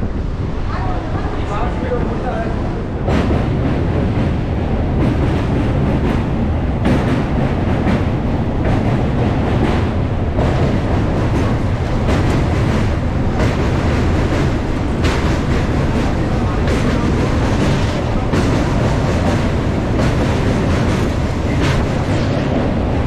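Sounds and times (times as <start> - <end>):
train rumbling over bridge: 0.0 - 23.0.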